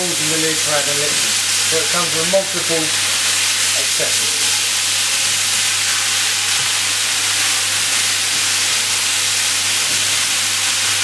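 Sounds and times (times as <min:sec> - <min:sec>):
stirrer motor humming: 0:00.0 - 0:11.0
vegetables sizzling in hot oil: 0:00.0 - 0:11.0.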